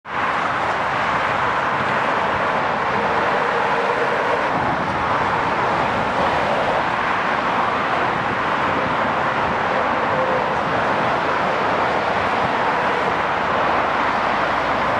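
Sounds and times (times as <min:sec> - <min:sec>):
motorway traffic passing at speed: 0:00.0 - 0:14.9.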